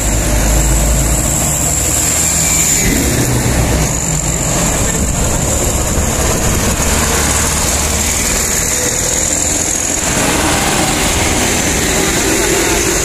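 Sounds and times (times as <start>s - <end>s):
road noise: 0.0s - 13.0s
truck diesel engines rumbling: 0.0s - 13.0s.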